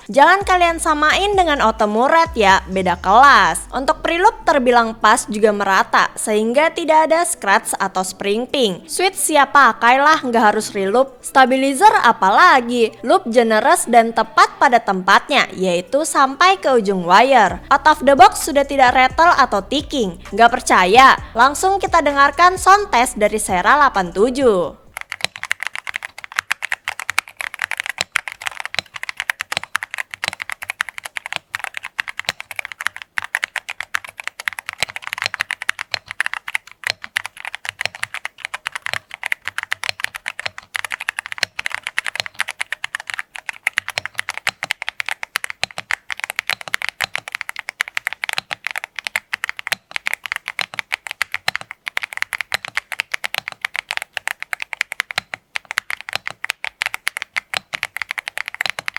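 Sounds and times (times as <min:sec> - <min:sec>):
fast typing on mechanical keyboard: 0:00.0 - 0:08.4, 0:09.0 - 0:58.9.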